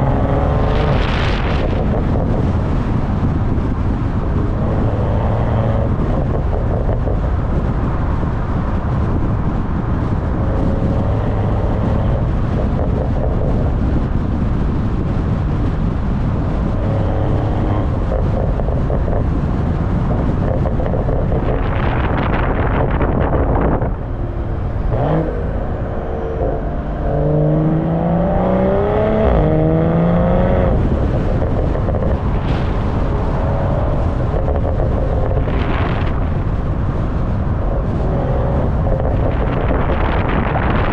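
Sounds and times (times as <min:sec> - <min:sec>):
car exhaust while driving: 0:00.0 - 0:40.9
wind buffeting on microphone: 0:00.0 - 0:40.9.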